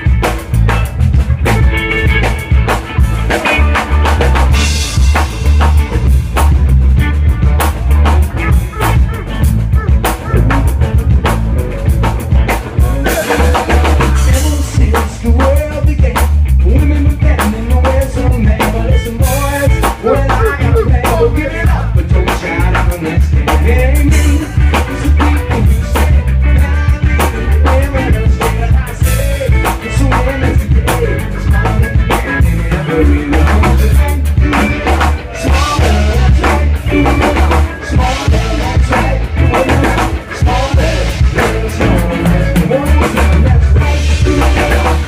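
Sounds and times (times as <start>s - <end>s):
bass line: 0.0s - 45.0s
drum kit beating: 0.0s - 45.0s.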